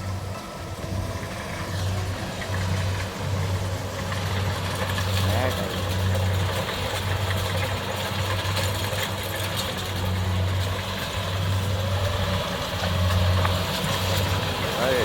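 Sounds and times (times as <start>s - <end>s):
combine harvester machinery din: 0.0s - 15.0s
low pulsing hum: 0.0s - 15.0s.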